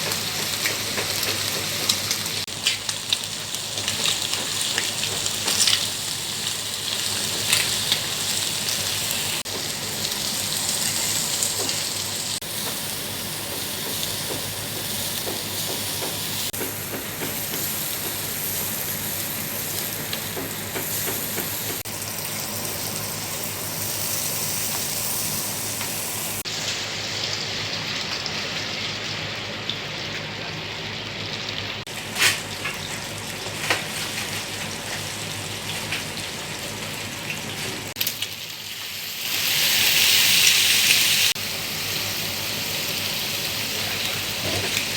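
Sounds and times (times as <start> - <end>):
shrimp sizzling in a pan: 0.0 - 44.9.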